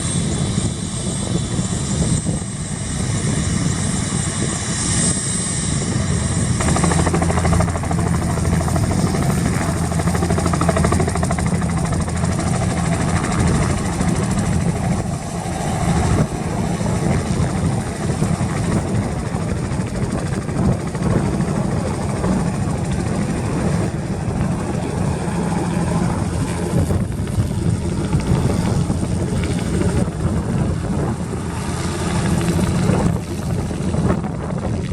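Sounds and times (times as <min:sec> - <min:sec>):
helicopter rotor beat: 0:00.0 - 0:34.9
high turbine whine: 0:00.0 - 0:34.9.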